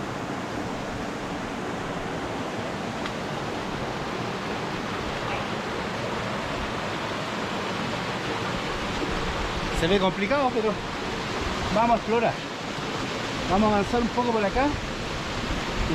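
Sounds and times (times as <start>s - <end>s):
running water rushing: 0.0s - 15.9s.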